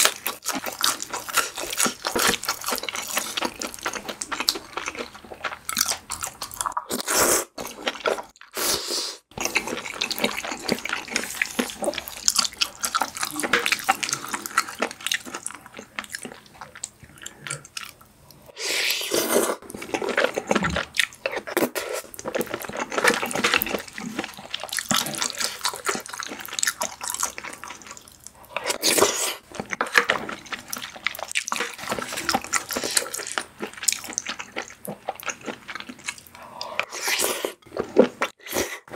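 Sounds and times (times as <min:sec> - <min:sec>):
chewing and smacking: 0:00.0 - 0:08.6, 0:09.3 - 0:18.4, 0:19.6 - 0:36.9.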